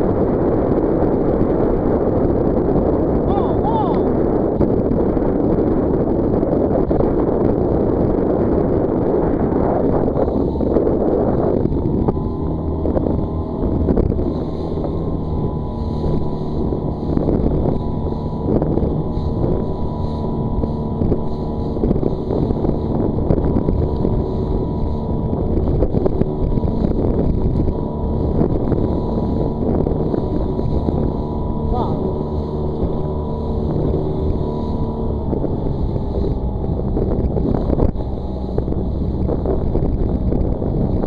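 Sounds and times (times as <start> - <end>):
motorboat engine running: 0.0 - 41.0
wind gusting over microphone: 0.0 - 41.0.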